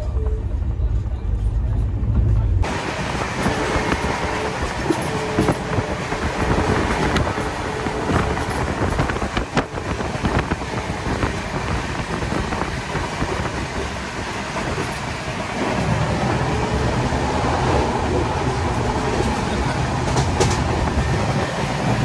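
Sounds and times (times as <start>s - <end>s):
train coach rumbling and rattling: 0.0s - 22.0s.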